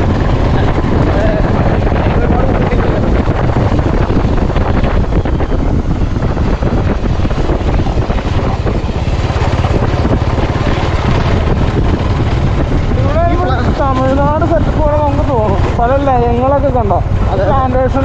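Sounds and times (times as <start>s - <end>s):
motorcycle engine running: 0.0s - 18.0s
wind on microphone: 0.0s - 18.0s.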